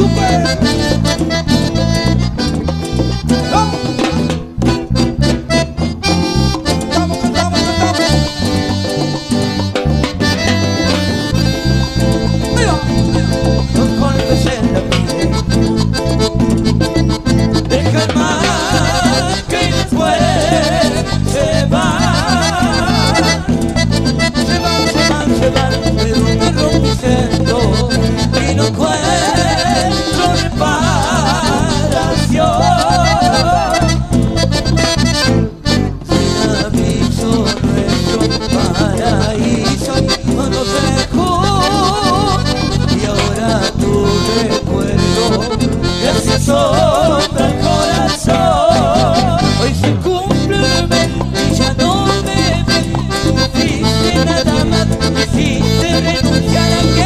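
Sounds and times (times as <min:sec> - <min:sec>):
live cumbia band music: 0:00.0 - 0:57.0.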